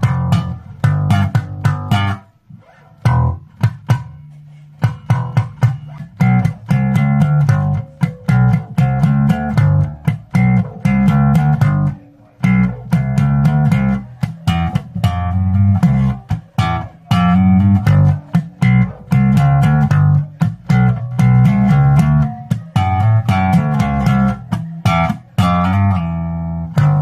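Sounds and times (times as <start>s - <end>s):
bass guitar plucked notes: 0.0s - 27.0s.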